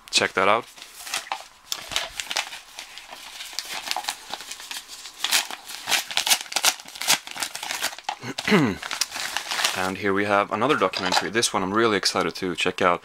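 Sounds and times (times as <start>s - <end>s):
paper envelope crinkling: 0.2s - 12.3s.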